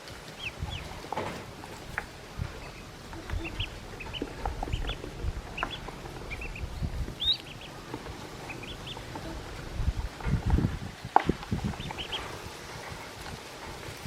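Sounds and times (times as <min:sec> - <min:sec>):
ducklings peeping: 0:00.0 - 0:14.0
low knocks and bumps: 0:00.4 - 0:12.4.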